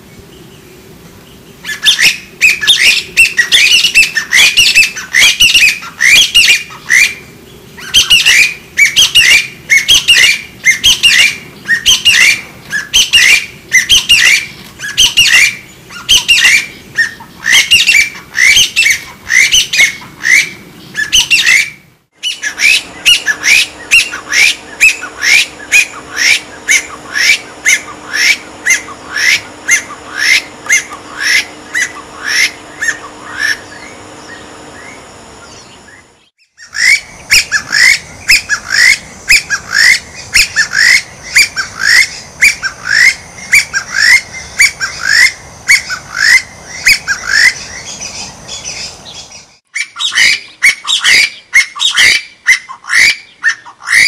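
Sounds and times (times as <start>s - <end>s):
bird calling high-pitched notes: 1.6s - 54.0s.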